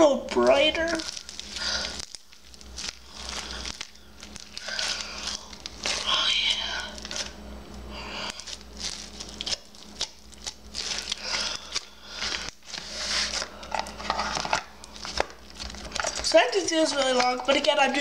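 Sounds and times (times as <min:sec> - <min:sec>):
hands squishing crackling slime: 0:00.0 - 0:07.4, 0:08.1 - 0:18.0
low background hum: 0:00.0 - 0:18.0.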